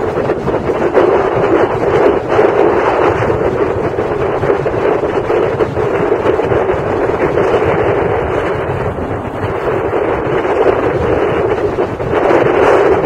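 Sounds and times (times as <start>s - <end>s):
moving train rushing and rumbling: 0.0s - 13.0s
wind buffeting microphone: 0.0s - 13.0s.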